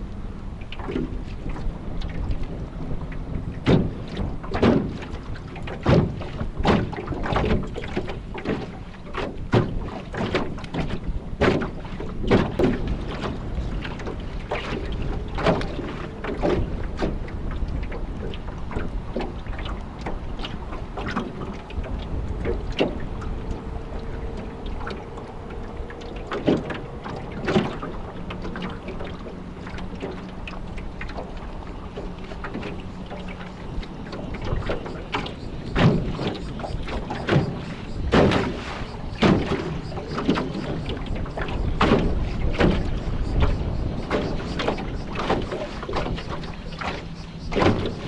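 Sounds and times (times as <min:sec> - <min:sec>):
water slapping against boat: 0:00.0 - 0:48.0
wind rumbling on microphone: 0:00.0 - 0:48.0.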